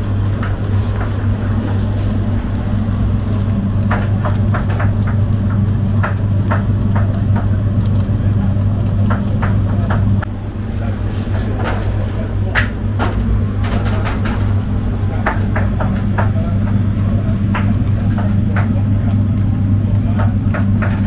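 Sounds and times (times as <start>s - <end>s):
loud low motor hum: 0.0s - 21.0s.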